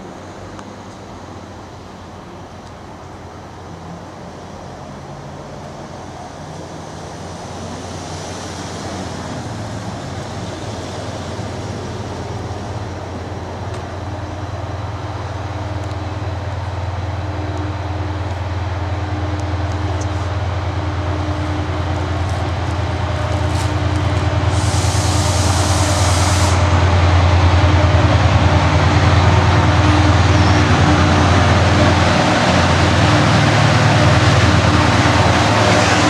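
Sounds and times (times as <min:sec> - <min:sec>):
diesel train low drone: 0:00.0 - 0:36.0.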